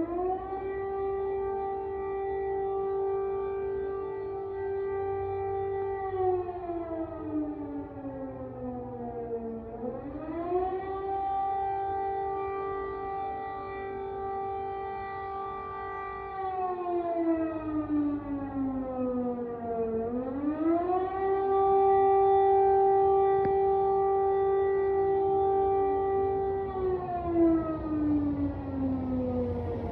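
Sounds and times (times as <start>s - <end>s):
air raid siren wailing: 0.0s - 29.9s.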